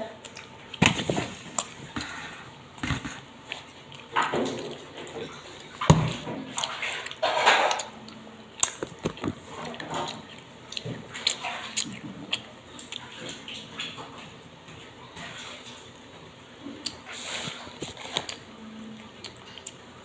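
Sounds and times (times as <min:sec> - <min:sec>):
person chewing crunchy nuts: 0:00.2 - 0:14.0, 0:16.7 - 0:20.0.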